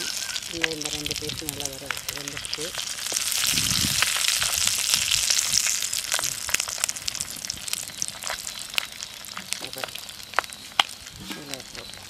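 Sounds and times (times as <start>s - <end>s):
fish frying in oil: 0.0s - 12.0s
oil popping and crackling: 0.0s - 12.0s.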